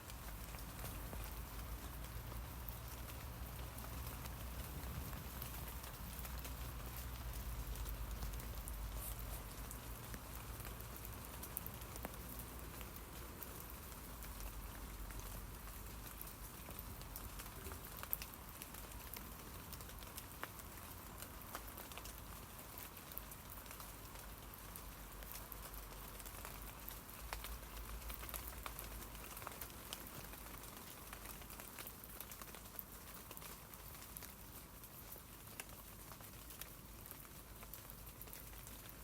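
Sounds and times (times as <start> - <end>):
rain pattering on leaves: 0.0 - 39.0.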